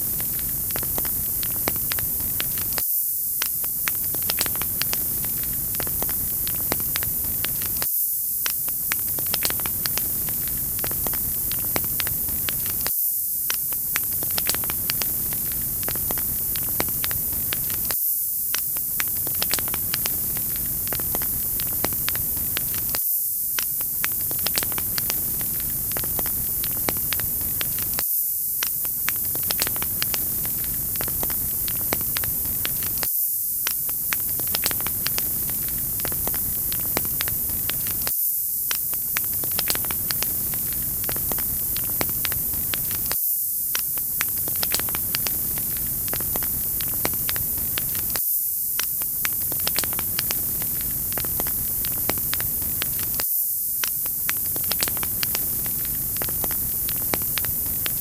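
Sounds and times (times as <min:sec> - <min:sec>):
wood fire crackling: 0:00.0 - 0:02.8, 0:03.4 - 0:07.8, 0:08.4 - 0:12.9, 0:13.5 - 0:23.0, 0:23.6 - 0:28.0, 0:28.6 - 0:33.1, 0:33.7 - 0:38.1, 0:38.7 - 0:48.2, 0:48.8 - 0:53.2, 0:53.8 - 0:58.0.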